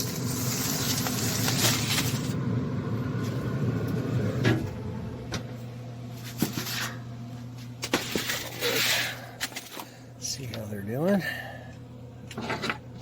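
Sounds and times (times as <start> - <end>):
grill humming: 0.0 - 13.0.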